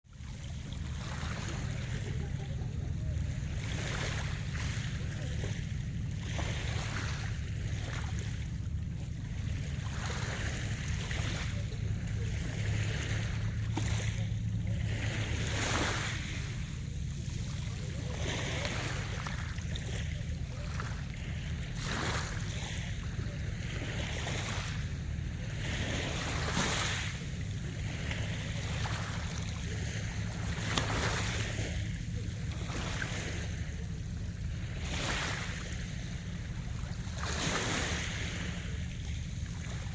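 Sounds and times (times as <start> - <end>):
sea waves breaking: 0.0 - 39.9
steady low rumble: 0.0 - 39.9.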